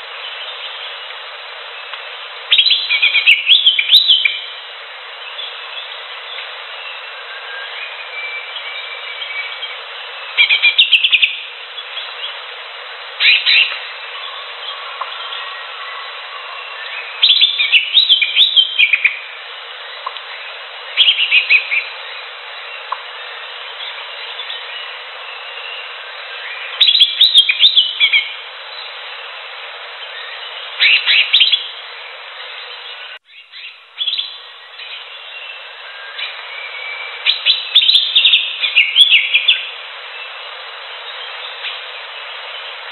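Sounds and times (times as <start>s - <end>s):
steady hiss: 0.0s - 42.9s
bird chirping: 1.8s - 4.6s, 5.2s - 12.4s, 13.2s - 19.3s, 19.9s - 29.0s, 30.0s - 40.4s.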